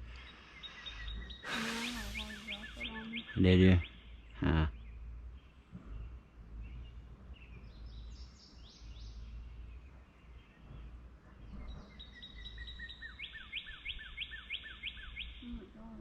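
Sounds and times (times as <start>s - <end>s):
low background rumble: 0.0s - 14.4s
songbirds calling: 0.0s - 16.0s.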